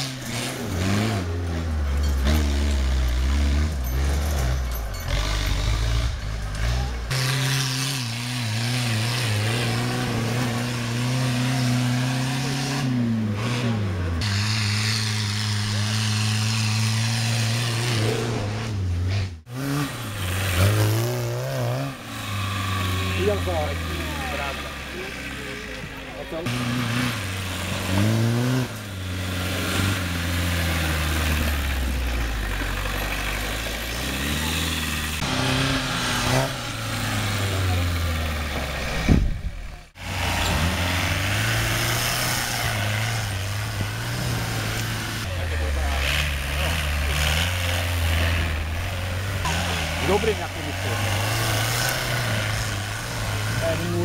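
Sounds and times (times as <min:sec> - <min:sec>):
small tractor engine running: 0:00.0 - 0:12.6, 0:19.7 - 0:54.0
tractor driving past: 0:00.0 - 0:54.0.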